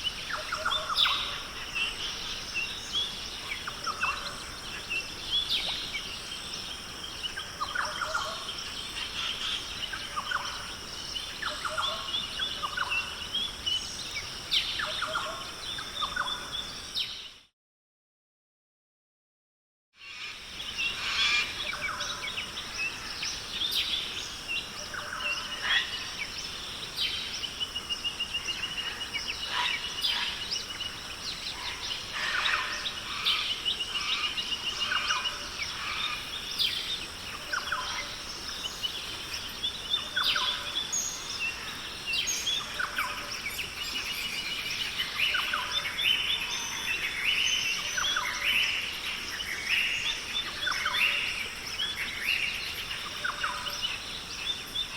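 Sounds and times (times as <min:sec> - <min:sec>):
birds chirping and trilling: 0:00.0 - 0:17.3, 0:20.0 - 0:54.9.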